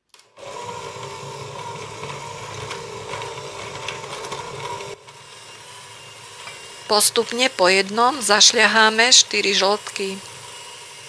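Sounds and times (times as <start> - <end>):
electric hand mixer running: 0.3 - 11.0.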